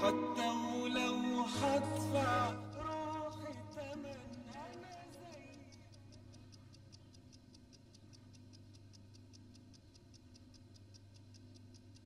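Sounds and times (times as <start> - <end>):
low steady hum: 0.0 - 12.0
wall clock ticking: 0.0 - 12.0.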